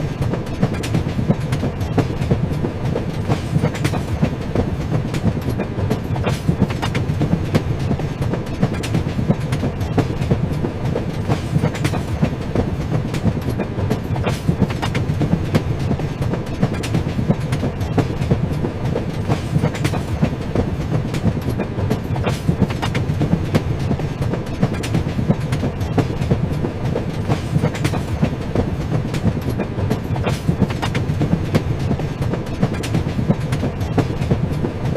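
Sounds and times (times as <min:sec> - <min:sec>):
train rumble: 0:00.0 - 0:34.9
wheels clacking on rails: 0:00.0 - 0:34.9.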